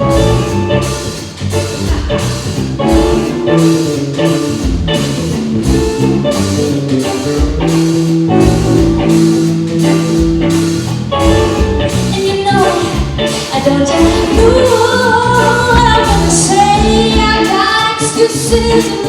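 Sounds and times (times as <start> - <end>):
bass guitar: 0.0 - 19.0
drum kit beat: 0.0 - 19.0
electric guitar: 0.0 - 19.0.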